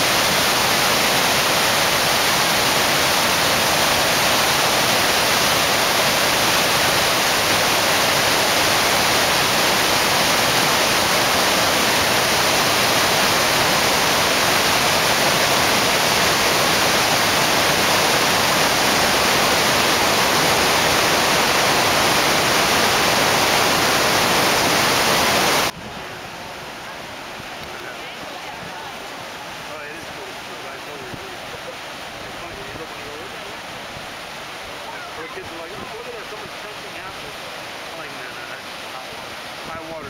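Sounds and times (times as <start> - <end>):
white water rushing over rocks: 0.0 - 40.0.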